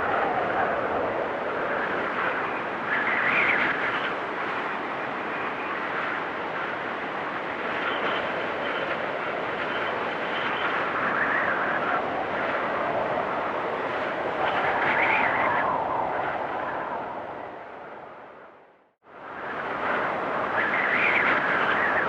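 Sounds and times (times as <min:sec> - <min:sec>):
storm wind gusting: 0:00.0 - 0:22.0
wind whistling: 0:00.0 - 0:22.0.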